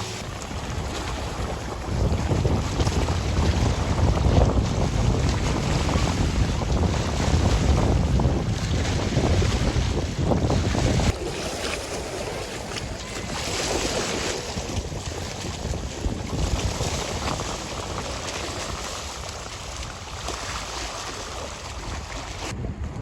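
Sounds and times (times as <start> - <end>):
waves on shore: 0.0 - 22.6
wind buffeting microphone: 0.0 - 23.0.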